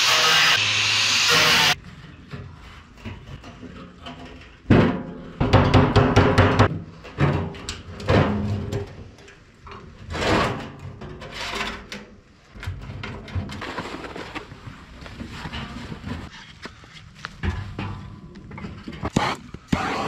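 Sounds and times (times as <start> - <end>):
metal clanks and scrapes: 1.7 - 5.8, 6.6 - 20.0.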